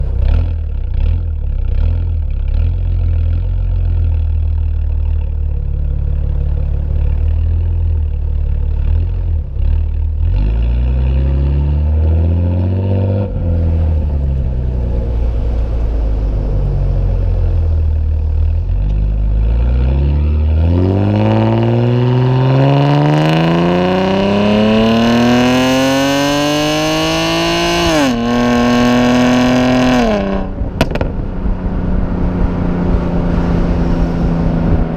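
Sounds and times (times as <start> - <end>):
car engine revving and accelerating: 0.0 - 3.4, 8.6 - 34.9.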